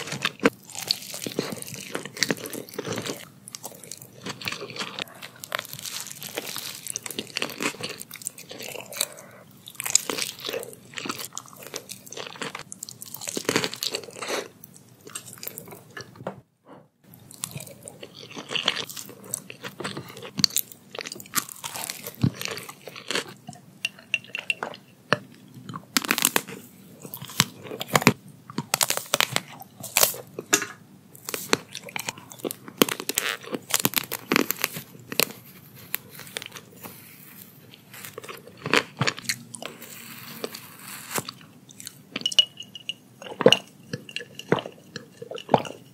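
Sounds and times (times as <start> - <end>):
crunching and chewing food: 0.0 - 16.2, 17.0 - 45.9.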